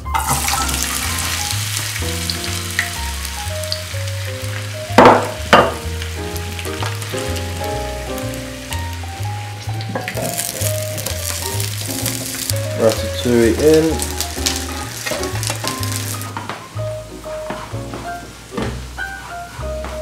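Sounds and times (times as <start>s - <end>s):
potatoes sizzling in oil: 0.0s - 16.8s
background music: 0.0s - 20.0s.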